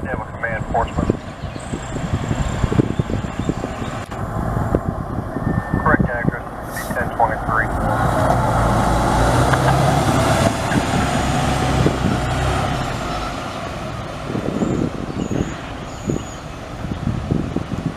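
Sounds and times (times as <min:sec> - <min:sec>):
fire truck diesel engine: 0:00.0 - 0:17.9.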